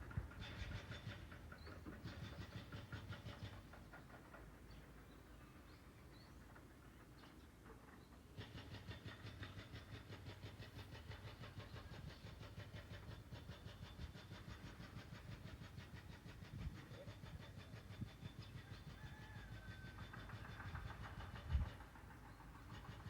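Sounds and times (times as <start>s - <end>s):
distant engine ticking: 0.0s - 23.0s.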